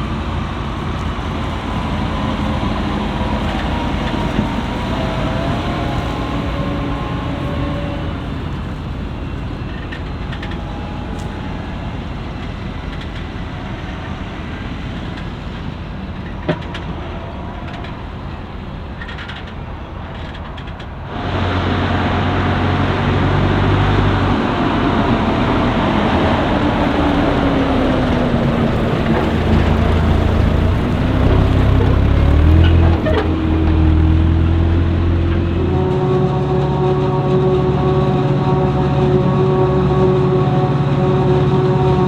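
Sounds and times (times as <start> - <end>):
diesel engines of harvesting machinery: 0.0 - 42.0.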